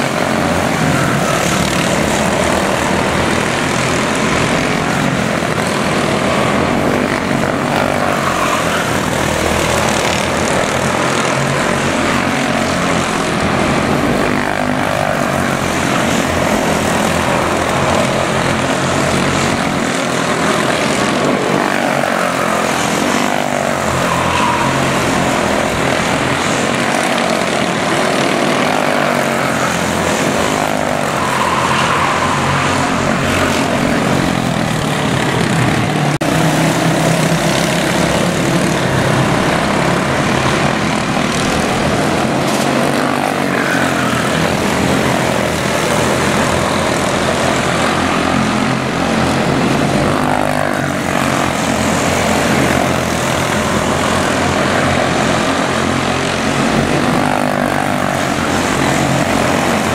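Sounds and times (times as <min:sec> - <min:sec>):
small race car engines buzzing: 0:00.0 - 0:59.9.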